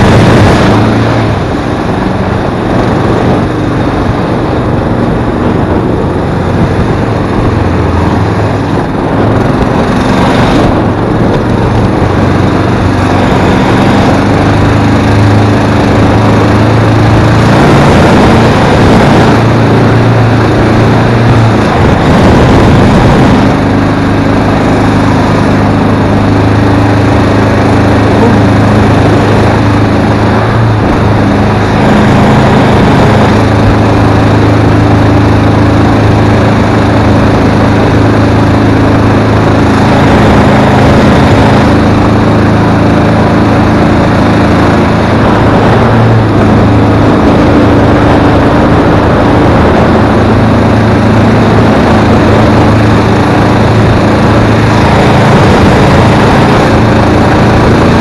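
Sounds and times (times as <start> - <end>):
boat motor running: 0.0 - 58.0
water rushing along hull: 0.0 - 58.0.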